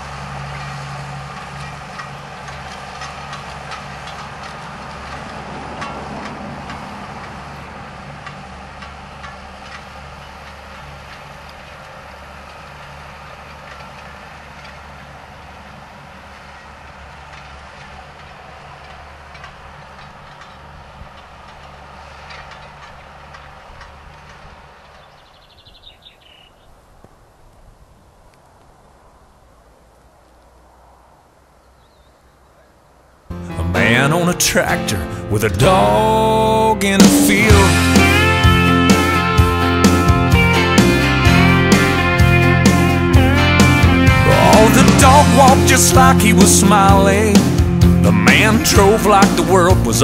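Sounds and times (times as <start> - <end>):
tractor diesel engine running: 0.0 - 26.3, 32.6 - 50.0.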